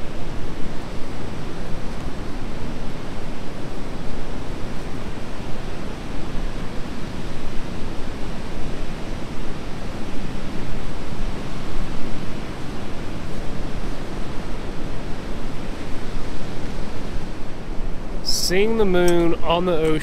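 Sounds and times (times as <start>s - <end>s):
wind: 0.0s - 20.0s
surf washing onto beach: 0.1s - 20.0s.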